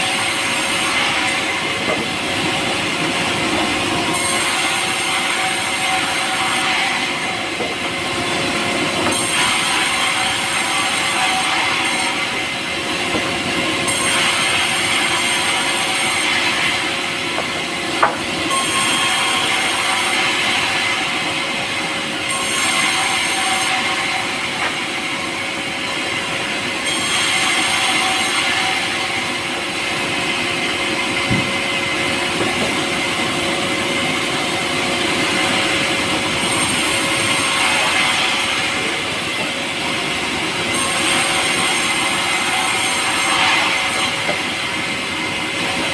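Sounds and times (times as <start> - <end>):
power saw cutting wood: 0.0 - 45.9.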